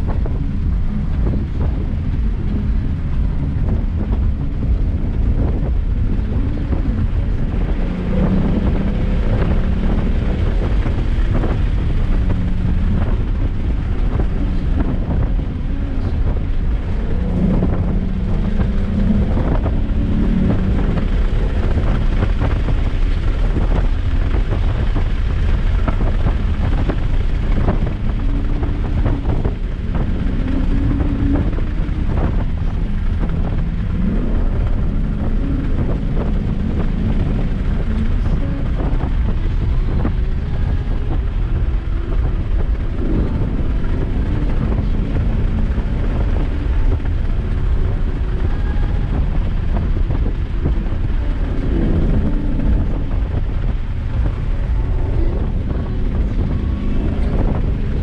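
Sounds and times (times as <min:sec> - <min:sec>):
car engine revving: 0:00.0 - 0:58.0
road and wind noise: 0:00.0 - 0:58.0.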